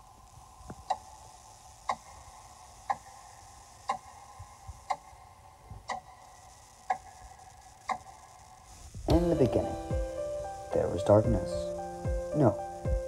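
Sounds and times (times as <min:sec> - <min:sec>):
faint steady hum: 0:00.0 - 0:13.0
clock ticking: 0:00.4 - 0:13.0.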